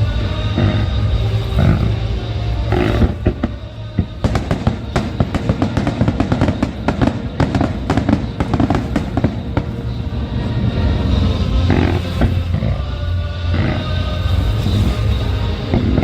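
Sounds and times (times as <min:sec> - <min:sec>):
fireworks bangs and crackles: 0:00.0 - 0:12.8, 0:13.6 - 0:16.0
music: 0:00.0 - 0:16.0.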